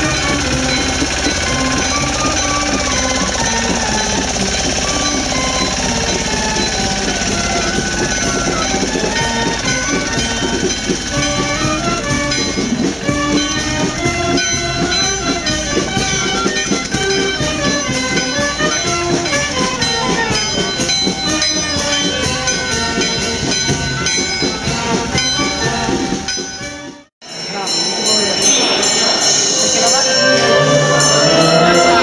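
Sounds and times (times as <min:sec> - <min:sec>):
regular drum beat: 0:00.0 - 0:27.1
wind band playing: 0:00.0 - 0:32.0.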